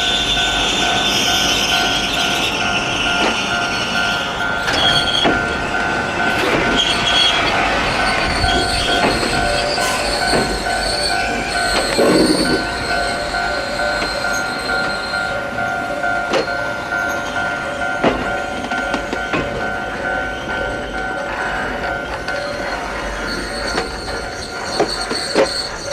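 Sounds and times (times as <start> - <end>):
electric train rumbling past: 0.0 - 25.9
level crossing warning bell: 0.0 - 25.9.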